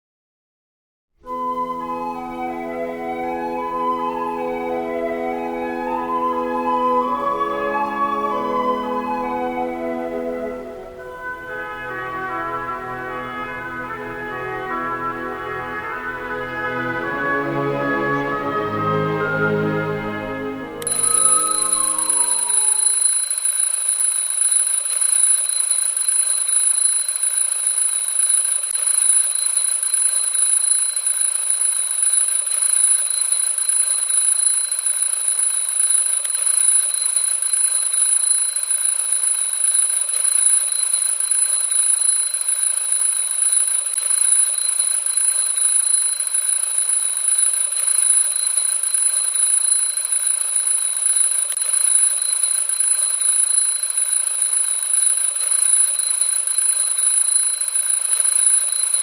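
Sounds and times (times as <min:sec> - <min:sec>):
alarm clock ringing: 0:02.6 - 0:09.8, 0:13.0 - 0:59.0.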